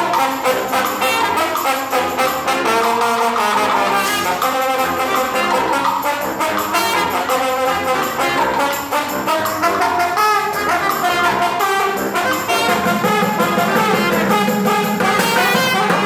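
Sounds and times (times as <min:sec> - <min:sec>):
bucket drums beat: 0:00.0 - 0:16.0
saxophone: 0:00.0 - 0:16.0
trombone: 0:00.0 - 0:16.0
trumpet: 0:00.0 - 0:16.0.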